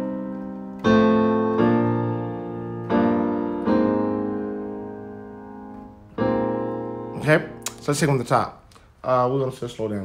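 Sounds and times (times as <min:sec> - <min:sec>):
piano chords ringing: 0:00.0 - 0:08.5.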